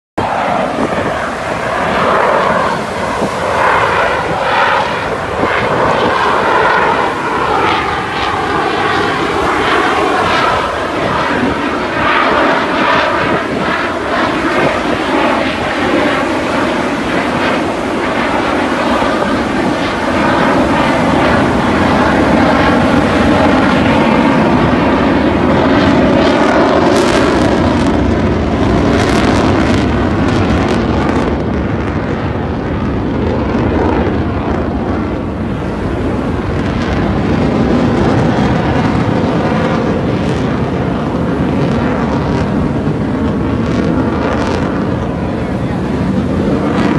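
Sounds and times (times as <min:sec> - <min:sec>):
jet engines roaring overhead: 0:00.2 - 0:46.9.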